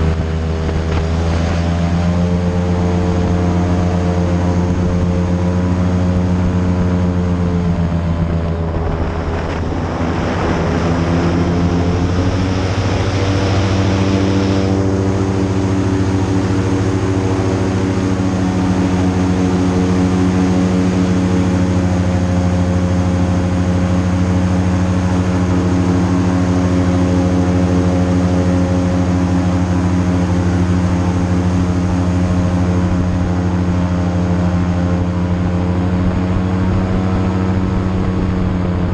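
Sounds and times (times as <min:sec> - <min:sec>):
airboat engine droning: 0:00.0 - 0:38.9.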